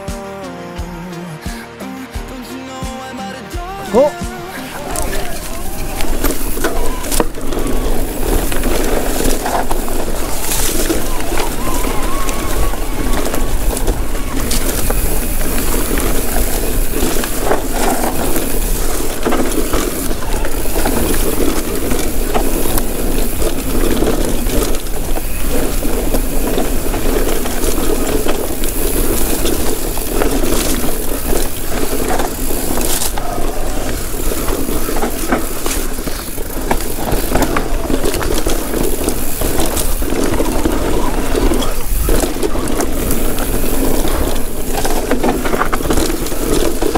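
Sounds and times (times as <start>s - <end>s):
tyres rolling over dirt and rock: 3.4s - 46.9s
bike knocks and rattles: 4.8s - 46.9s.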